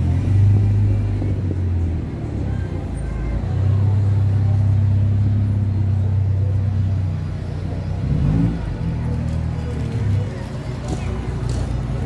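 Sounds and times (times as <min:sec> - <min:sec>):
motor vehicle engine hum: 0:00.0 - 0:12.0.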